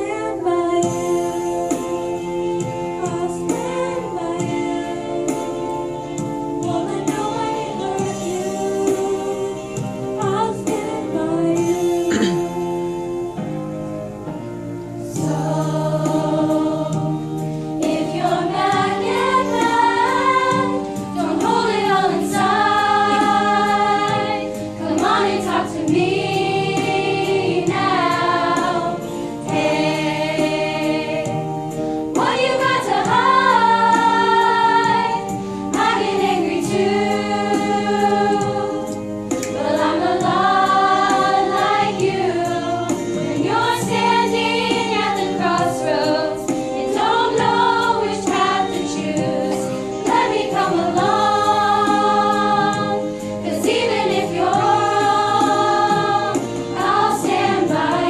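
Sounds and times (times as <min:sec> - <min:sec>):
choir singing a pop ballad: 0:00.0 - 0:13.6, 0:14.2 - 0:58.0.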